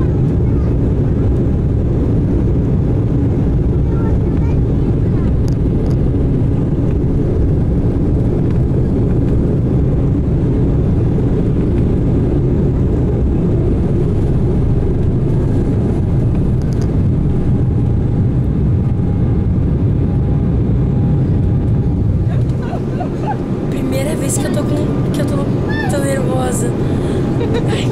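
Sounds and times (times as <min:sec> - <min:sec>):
jet engines rumbling in cabin: 0:00.0 - 0:27.9.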